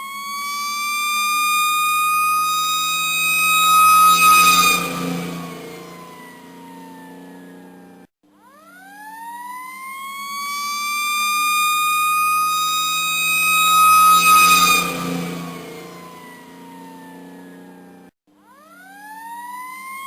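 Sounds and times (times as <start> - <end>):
police siren wailing: 0.0 - 8.0, 8.7 - 18.1, 18.7 - 20.0.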